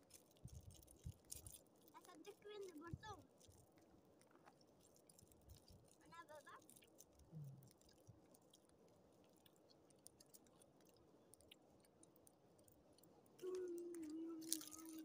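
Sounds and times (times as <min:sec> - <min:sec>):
twig fire crackling: 0:00.0 - 0:15.0.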